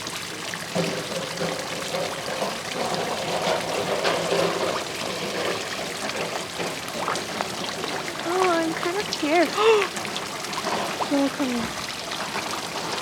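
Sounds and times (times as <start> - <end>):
water pouring into pond: 0.0 - 13.0.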